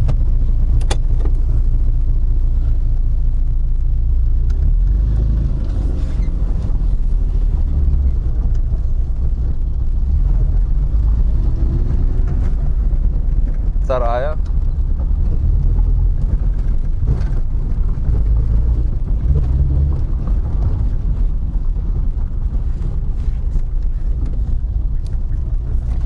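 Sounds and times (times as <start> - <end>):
car engine low rumble: 0.0 - 26.0
road noise: 0.0 - 26.0.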